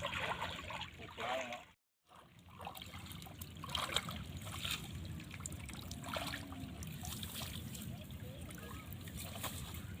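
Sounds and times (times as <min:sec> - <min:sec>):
short water splashes: 0:00.0 - 0:10.0
water trickling: 0:00.0 - 0:10.0.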